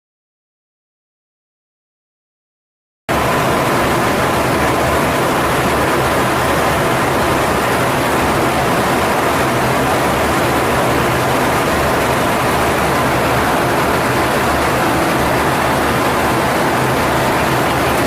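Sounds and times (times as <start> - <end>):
jet cockpit engine and airflow rush: 3.1 - 18.0.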